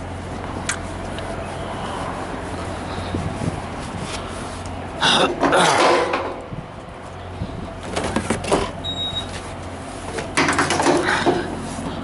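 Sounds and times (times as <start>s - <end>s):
rustling and scraping: 0.0s - 12.0s.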